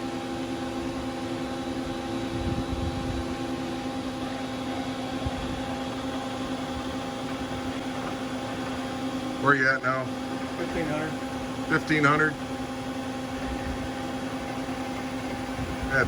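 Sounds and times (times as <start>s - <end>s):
milling machine spindle hum: 0.0s - 16.0s
noisy background: 0.0s - 16.0s.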